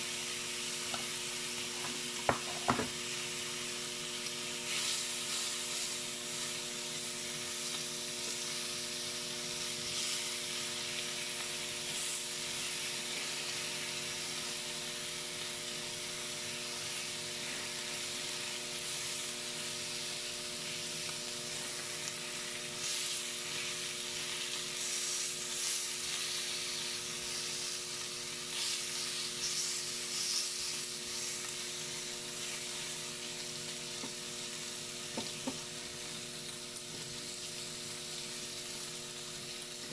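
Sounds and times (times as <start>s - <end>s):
meat sizzling on grill: 0.0s - 39.9s.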